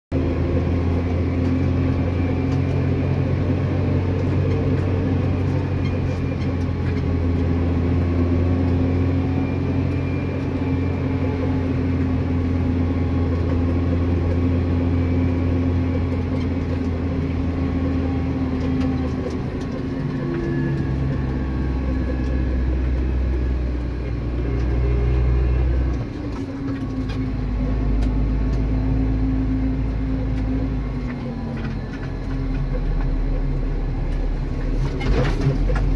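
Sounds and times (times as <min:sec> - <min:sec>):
tractor diesel engine drone: 0:00.1 - 0:35.9.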